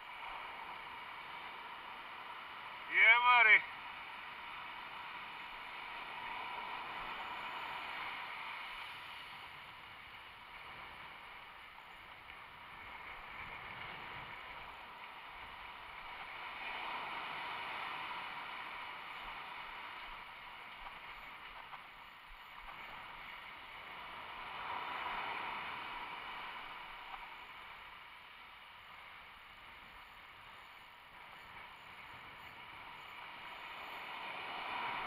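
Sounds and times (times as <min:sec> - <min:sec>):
ocean surf breaking: 0:00.0 - 0:35.0.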